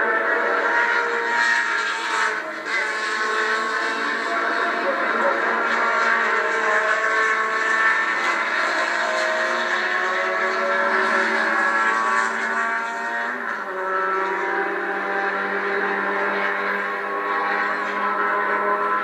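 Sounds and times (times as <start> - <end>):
race car engines on television: 0.0 - 19.0.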